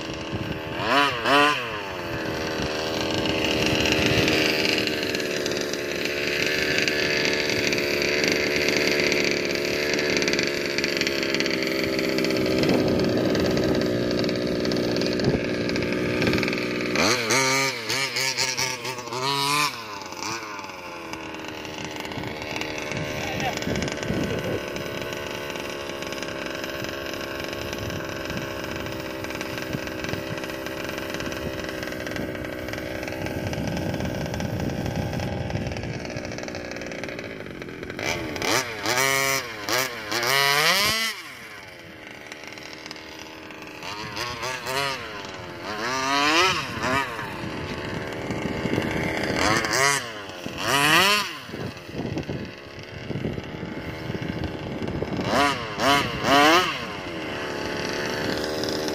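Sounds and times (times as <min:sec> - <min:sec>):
two-stroke engine revving: 0:00.0 - 0:58.9.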